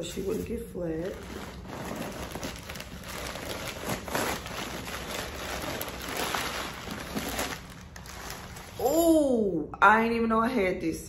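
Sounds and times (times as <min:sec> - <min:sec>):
paper rustling and crinkling: 0:00.0 - 0:08.9.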